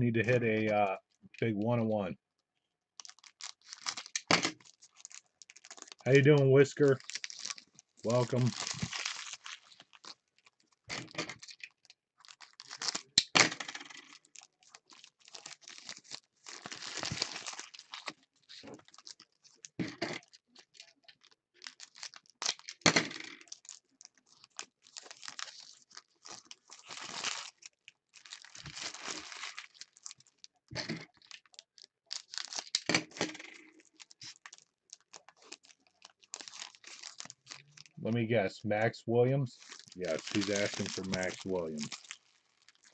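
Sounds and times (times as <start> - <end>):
foil wrappers tearing and crinkling: 3.0 - 38.0, 39.6 - 42.9.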